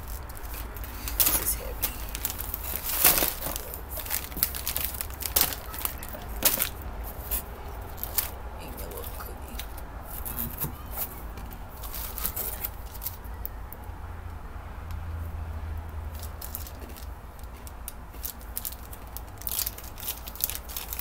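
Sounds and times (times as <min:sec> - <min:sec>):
cardboard and plastic crinkling: 0:00.0 - 0:13.3, 0:16.1 - 0:21.0
steady low hum: 0:00.0 - 0:21.0.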